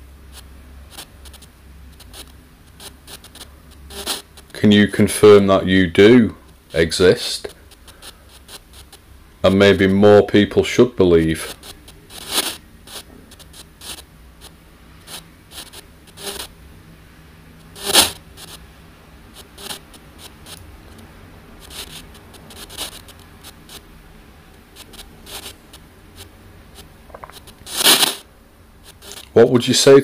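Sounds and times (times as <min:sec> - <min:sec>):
bursts of static: 0:00.0 - 0:30.0
low steady hum: 0:00.0 - 0:30.0.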